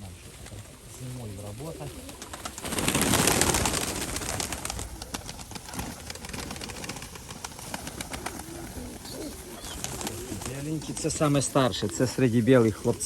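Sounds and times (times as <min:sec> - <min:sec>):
pigeons cooing: 0:00.0 - 0:13.0
rustling wing flurry: 0:00.0 - 0:13.0.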